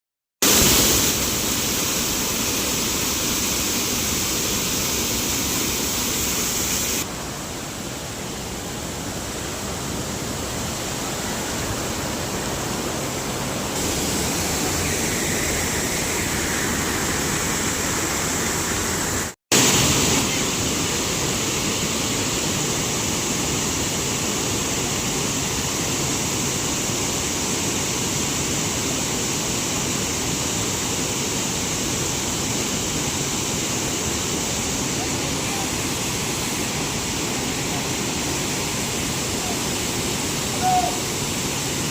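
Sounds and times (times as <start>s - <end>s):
waterfall rushing: 0.4s - 41.9s.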